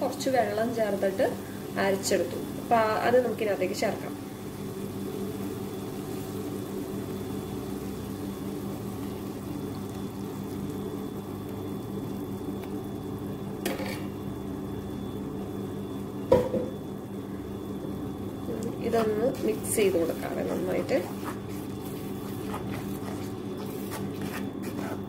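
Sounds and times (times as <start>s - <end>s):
food bubbling and sizzling in a pan: 0.0s - 25.0s.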